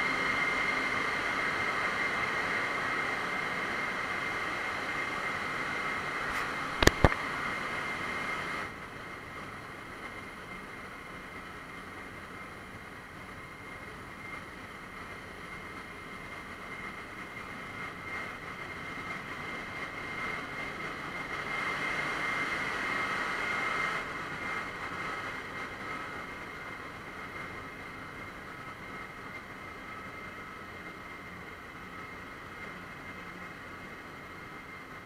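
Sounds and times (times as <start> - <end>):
high constant whine: 0.0 - 35.0.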